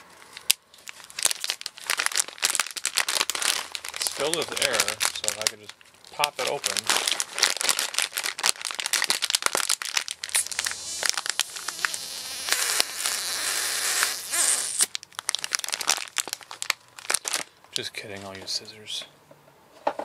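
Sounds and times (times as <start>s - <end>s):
plastic bag crinkling: 0.0s - 18.4s.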